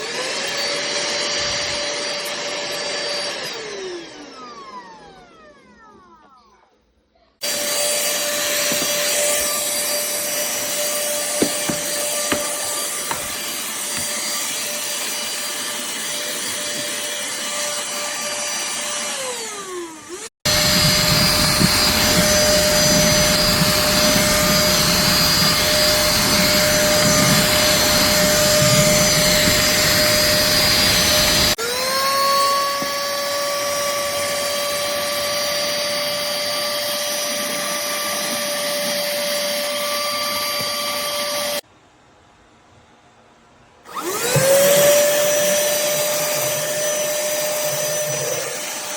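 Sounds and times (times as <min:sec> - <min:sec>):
handheld vacuum cleaner whine: 0:00.0 - 0:06.8, 0:07.4 - 0:41.7, 0:43.9 - 0:48.9.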